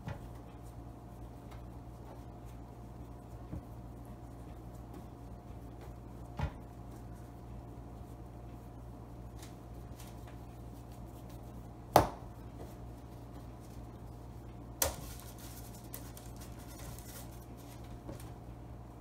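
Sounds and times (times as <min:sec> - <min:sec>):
dough rubbing between palms: 0:00.0 - 0:18.4
steady low hum: 0:00.0 - 0:19.0.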